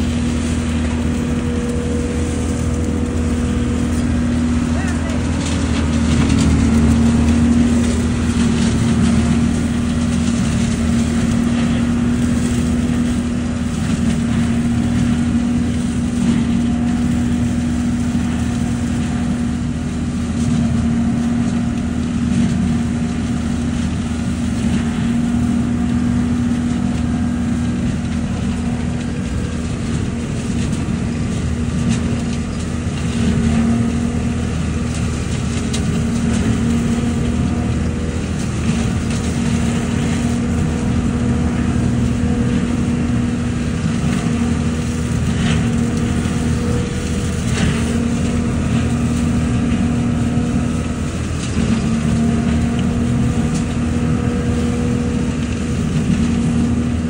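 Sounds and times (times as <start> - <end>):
hose sucking up dry leaves: 0.0 - 57.0
leaf vacuum engine and fan drone: 0.0 - 57.0.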